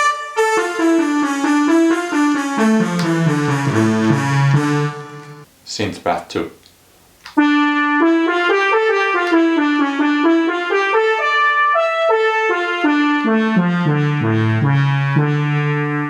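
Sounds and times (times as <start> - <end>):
synth brass melody: 0.0 - 5.5, 7.4 - 16.0.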